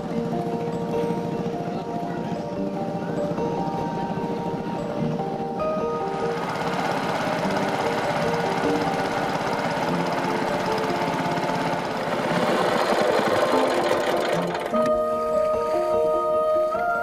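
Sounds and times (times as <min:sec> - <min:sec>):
small boat engine putter: 0:00.0 - 0:15.2
soft background music: 0:00.0 - 0:17.0.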